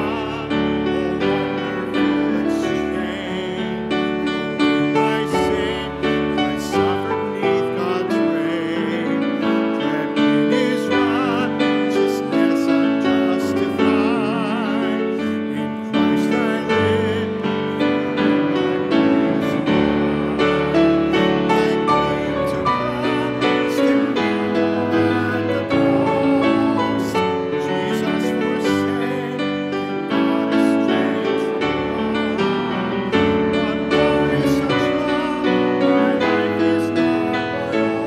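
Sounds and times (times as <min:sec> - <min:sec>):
congregation singing a hymn: 0:00.0 - 0:38.0
lead voice singing with vibrato: 0:00.0 - 0:38.0
piano accompaniment: 0:00.0 - 0:38.0.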